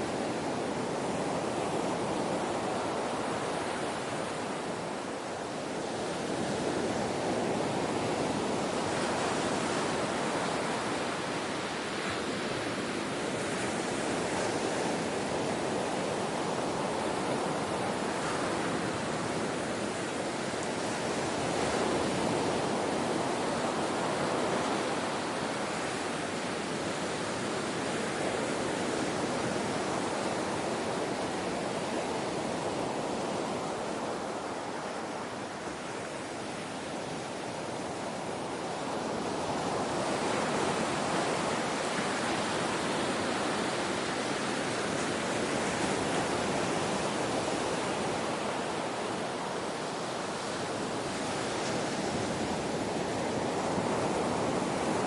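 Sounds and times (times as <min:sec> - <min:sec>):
ocean waves washing on shore: 0:00.0 - 0:55.0.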